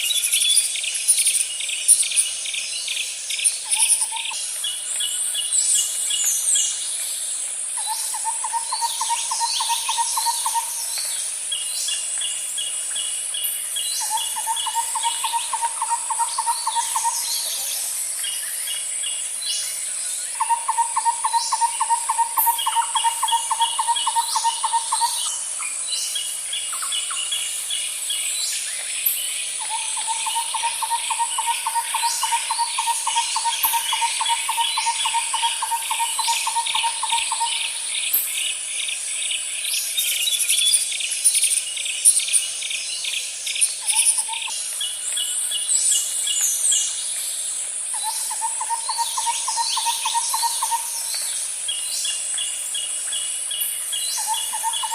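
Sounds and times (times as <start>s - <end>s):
high insect hum: 0.0s - 54.9s
birds chirping and calling: 7.8s - 54.9s.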